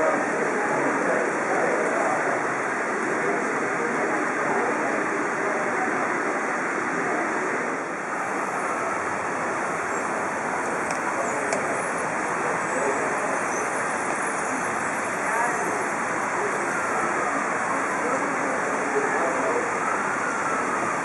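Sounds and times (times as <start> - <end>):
crowd talking indistinctly: 0.0 - 21.0.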